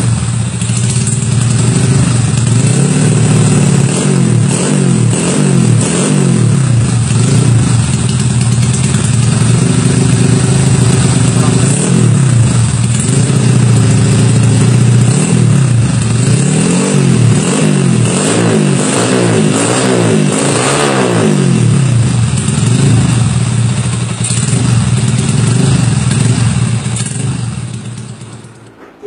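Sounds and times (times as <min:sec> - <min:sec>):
motorcycle engine revving: 0:00.0 - 0:28.7.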